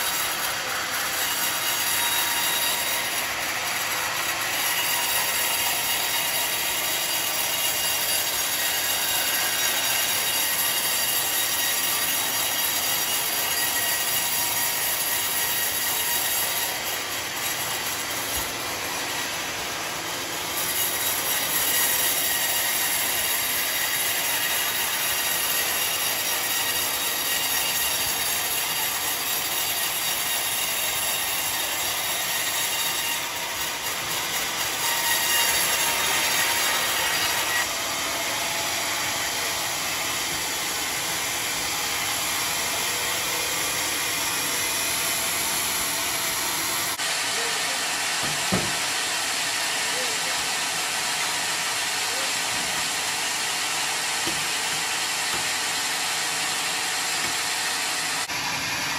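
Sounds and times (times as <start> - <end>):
band saw cutting wood: 0.0 - 58.9.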